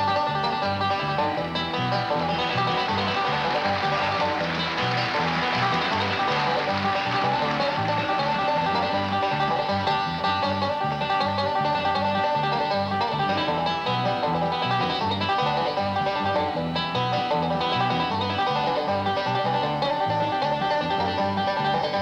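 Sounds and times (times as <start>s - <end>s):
bouncing bass line: 0.0s - 22.0s
picked banjo: 0.0s - 22.0s.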